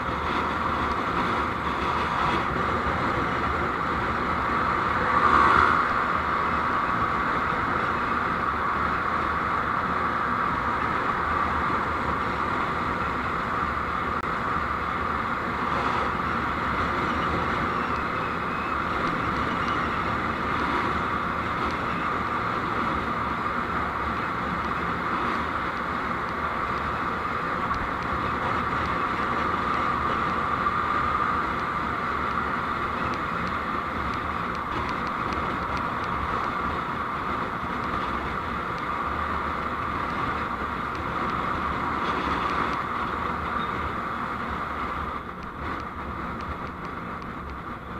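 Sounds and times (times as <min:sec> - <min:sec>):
vehicle road and engine noise: 0:00.0 - 0:47.9.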